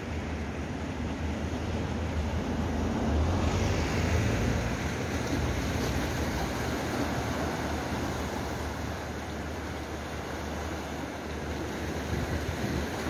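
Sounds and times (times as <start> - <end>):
sea waves washing among rocks: 2.2 - 13.0.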